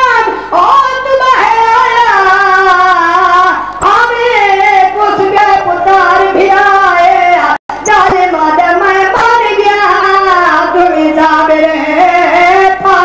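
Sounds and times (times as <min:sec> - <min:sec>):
boy chanting into a microphone: 0:00.0 - 0:13.0.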